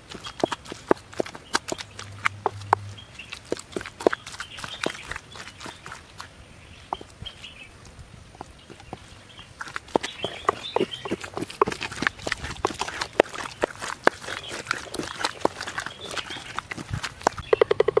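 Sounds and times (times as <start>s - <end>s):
pestle pounding in clay bowl: 0.0s - 6.0s, 8.4s - 18.0s.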